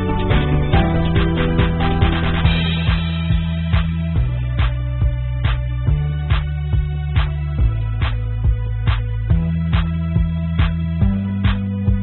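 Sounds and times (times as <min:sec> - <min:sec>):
drum hits: 0:00.0 - 0:12.0
low bass line: 0:00.0 - 0:12.0.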